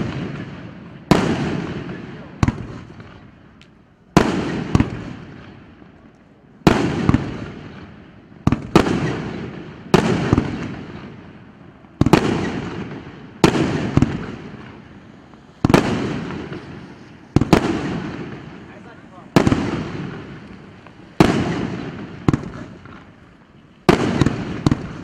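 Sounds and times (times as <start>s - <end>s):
firework bangs: 0.0s - 25.0s
firework crackling tail: 0.0s - 25.0s.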